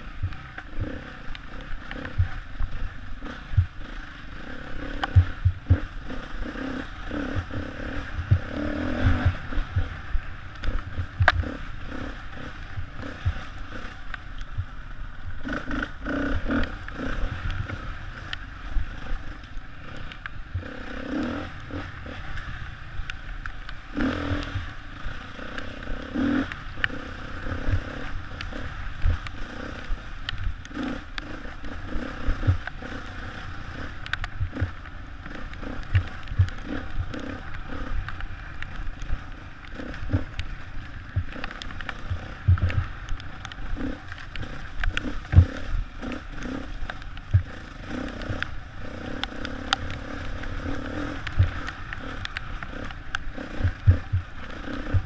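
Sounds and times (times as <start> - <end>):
dirt bike engine revving: 0.0 - 14.8, 15.4 - 23.0, 23.8 - 55.0.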